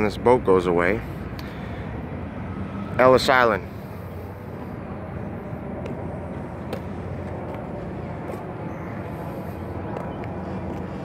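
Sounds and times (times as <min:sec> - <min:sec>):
ferry engines rumbling: 0:00.0 - 0:11.0
waterfront ambience: 0:00.0 - 0:11.0.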